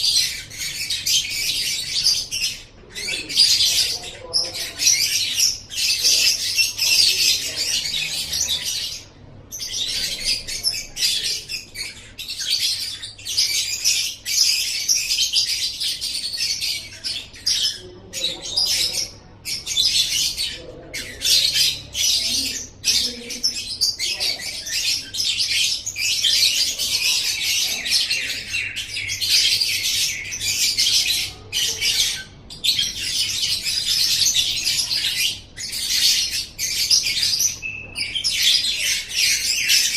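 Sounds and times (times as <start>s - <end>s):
lovebird chirping and trilling: 0.0s - 39.9s.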